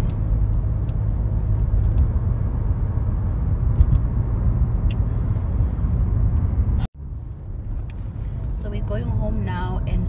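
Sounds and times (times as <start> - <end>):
car cabin road and engine rumble: 0.0 - 10.0.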